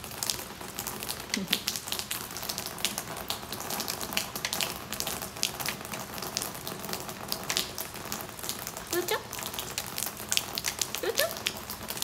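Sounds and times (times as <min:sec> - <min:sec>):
rain on a wooden deck: 0:00.0 - 0:12.0.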